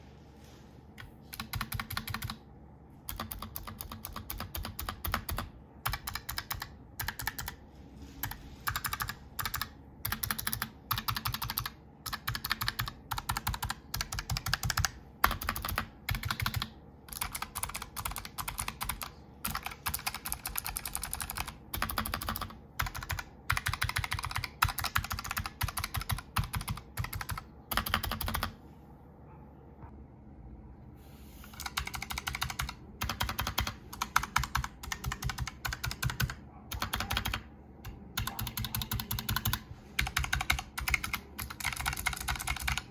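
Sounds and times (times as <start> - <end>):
keyboard typing: 1.0 - 2.4, 3.1 - 7.6, 8.2 - 28.6, 31.5 - 42.9.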